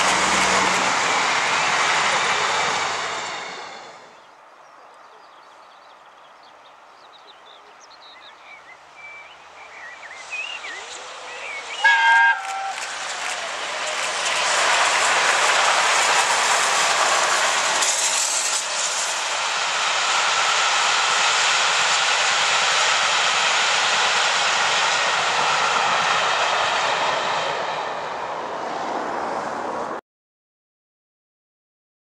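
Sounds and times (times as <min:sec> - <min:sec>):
passenger train passing: 0:00.0 - 0:30.0.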